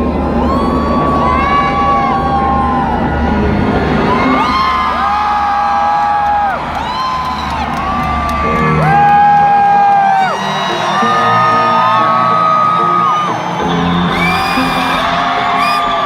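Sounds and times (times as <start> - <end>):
crowd screaming and whooping: 0.0 - 16.0
loud live concert music: 0.0 - 16.0.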